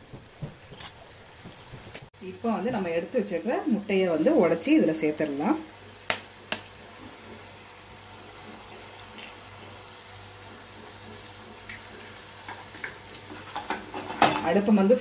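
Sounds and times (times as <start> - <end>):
food simmering hiss: 0.0 - 15.0.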